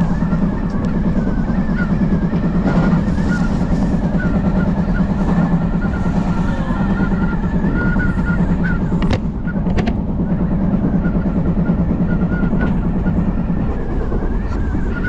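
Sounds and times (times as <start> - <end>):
faint wavering whine: 0.0 - 15.0
train running rumble: 0.0 - 15.0.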